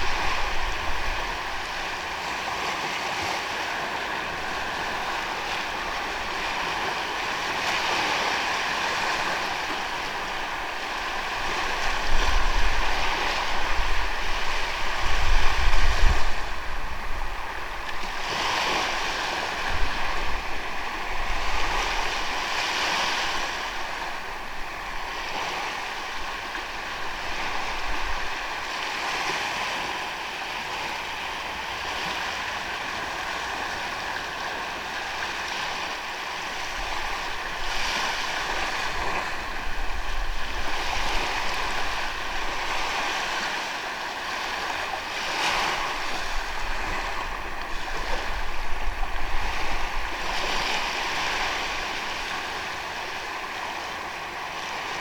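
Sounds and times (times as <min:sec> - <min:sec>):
waves washing onto sandy beach: 0:00.0 - 0:55.0
wind rumble on microphone: 0:00.0 - 0:55.0.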